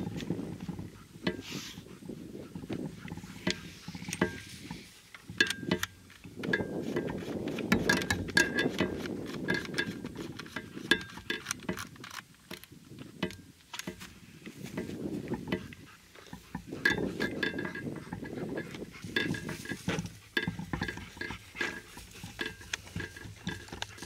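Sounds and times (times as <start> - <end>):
rustling: 0.0 - 24.0
shotgun handling clicks and clinks: 3.4 - 14.1, 14.8 - 24.0.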